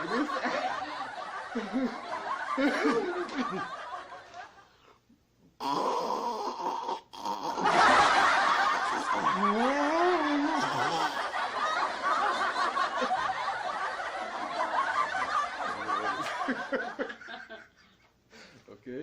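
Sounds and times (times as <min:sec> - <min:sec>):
people laughing and snickering: 0:00.0 - 0:04.7, 0:07.4 - 0:18.6.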